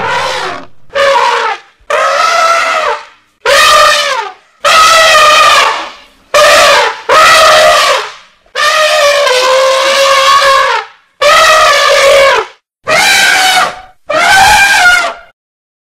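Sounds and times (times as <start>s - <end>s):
elephant trumpeting: 0.0s - 15.3s.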